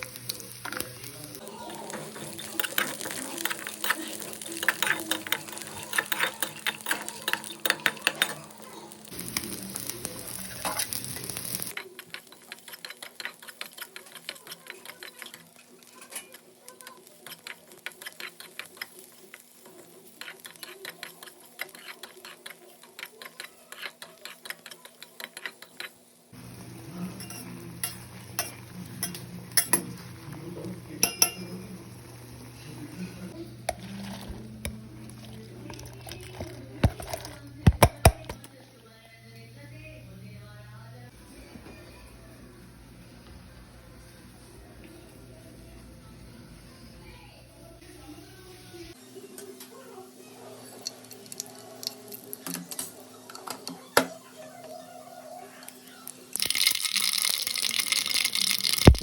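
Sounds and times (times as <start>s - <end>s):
food sizzling: 0.0s - 49.2s, 56.0s - 59.0s.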